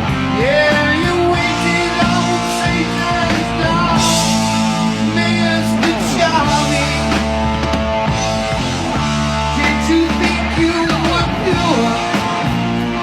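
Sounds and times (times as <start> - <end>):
drums: 0.0 - 13.0
electric guitar: 0.0 - 13.0.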